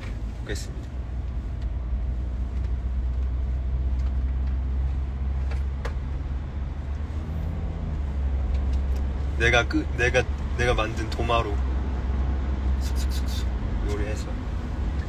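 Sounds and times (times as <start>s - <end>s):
car interior engine and road rumble: 0.0s - 15.0s.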